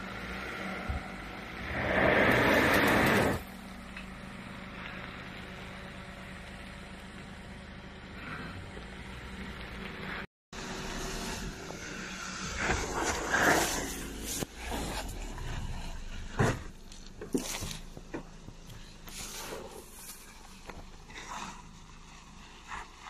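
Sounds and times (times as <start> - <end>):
car engine at low revs: 0.0 - 23.0.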